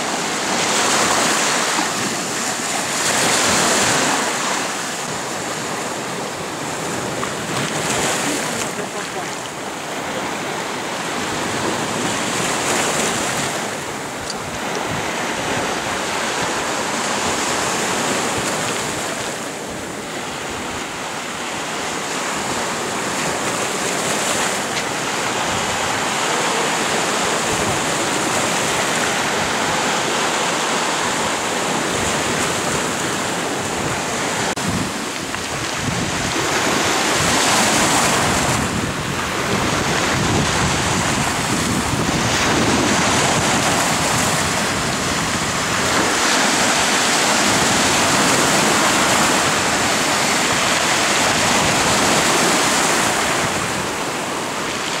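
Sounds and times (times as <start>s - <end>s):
surf washing over pebbles: 0.0s - 55.0s.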